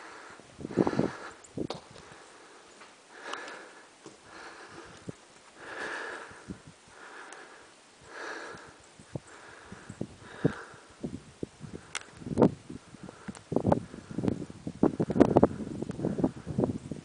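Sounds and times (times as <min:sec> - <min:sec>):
person breathing through nose: 0:00.0 - 0:01.4, 0:02.0 - 0:12.2, 0:12.8 - 0:16.7.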